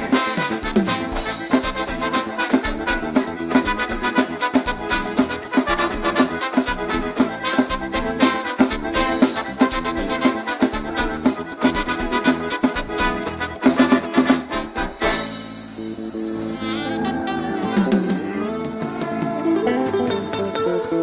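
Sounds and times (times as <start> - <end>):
live band playing dance music: 0.0 - 21.0.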